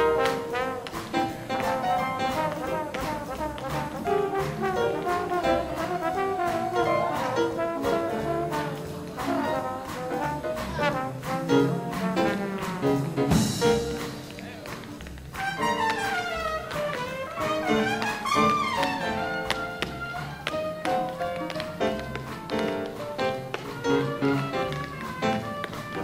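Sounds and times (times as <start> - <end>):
trombone and trumpet section: 0.0 - 14.3, 15.3 - 26.0
big band jazz: 0.0 - 26.0
steady percussive beat: 0.0 - 26.0.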